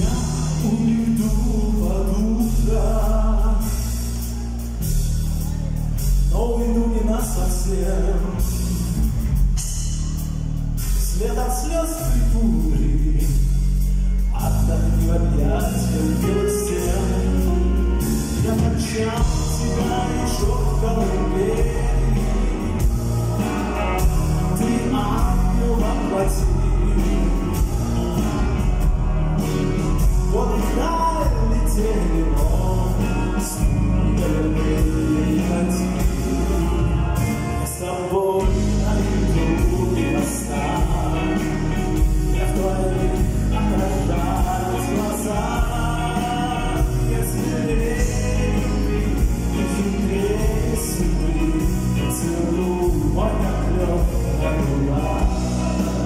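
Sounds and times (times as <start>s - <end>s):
man singing: 0.0s - 4.6s, 5.5s - 10.2s, 10.8s - 56.0s
live metal band playing: 0.0s - 56.0s.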